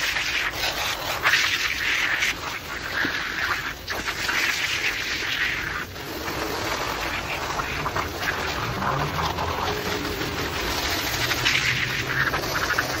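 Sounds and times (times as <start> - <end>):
wet rug being scrubbed: 0.0 - 13.0.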